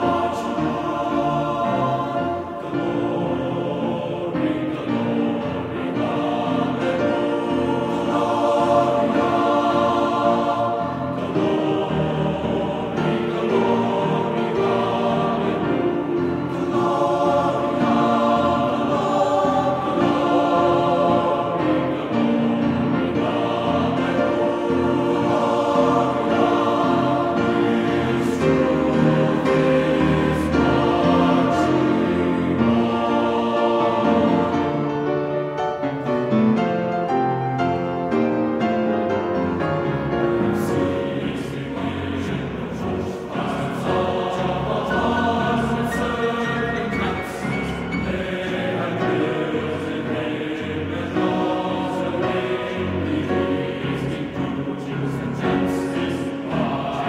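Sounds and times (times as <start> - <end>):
choral singing music: 0.0 - 57.0.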